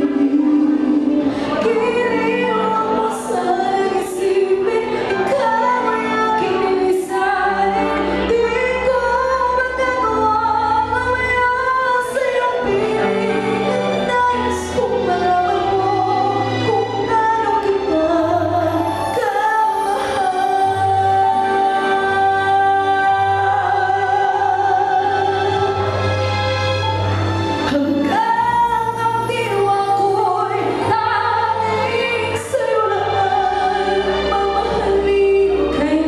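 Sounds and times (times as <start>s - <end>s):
woman singing a slow ballad: 0.0s - 25.8s, 27.7s - 36.0s.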